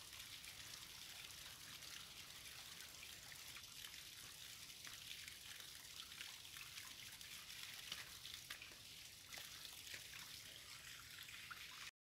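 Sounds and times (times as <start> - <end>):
water trickling into pool: 0.0 - 11.9.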